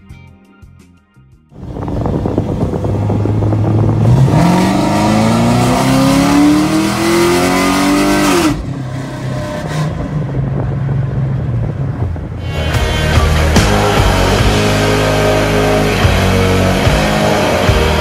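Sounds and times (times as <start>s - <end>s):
car engine accelerating: 1.6s - 18.0s.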